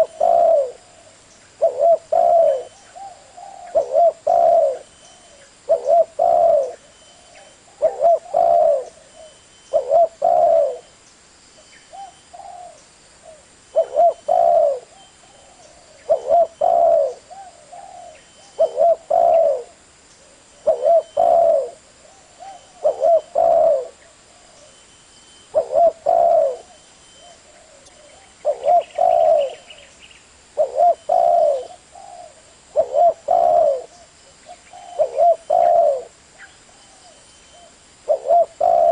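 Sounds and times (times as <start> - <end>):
dove cooing: 0.0 - 10.9, 11.9 - 24.8, 25.4 - 30.0, 30.6 - 38.9.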